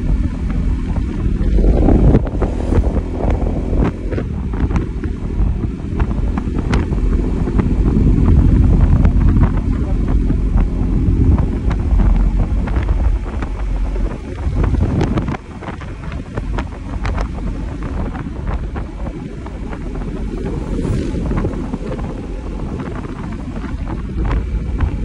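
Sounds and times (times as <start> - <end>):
motorcycle engine droning: 0.0 - 25.0
road noise: 0.0 - 25.0
wind buffeting microphone: 0.0 - 25.0.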